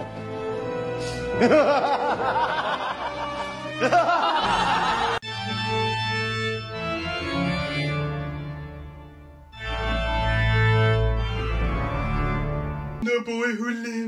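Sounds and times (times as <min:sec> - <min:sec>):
organ chords: 0:00.0 - 0:13.3.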